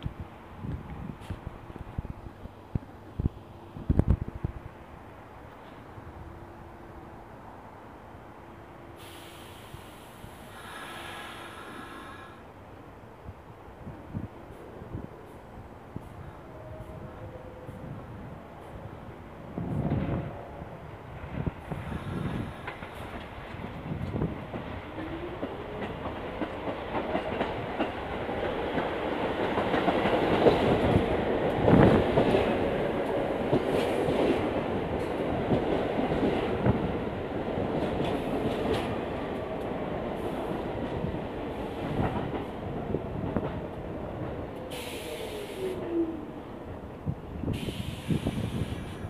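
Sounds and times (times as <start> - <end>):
subway train wheels clacking: 0.0 - 12.5, 13.8 - 49.0.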